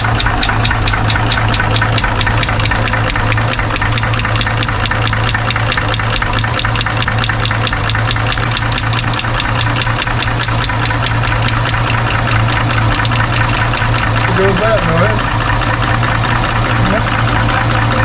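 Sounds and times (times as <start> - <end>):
rapid engine ticking: 0.0 - 18.0
truck engine idling: 0.0 - 18.0.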